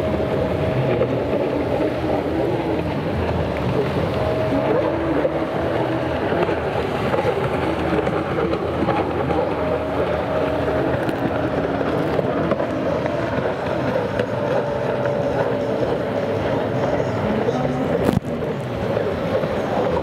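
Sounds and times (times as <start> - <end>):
jet ski engines revving: 0.0 - 20.0.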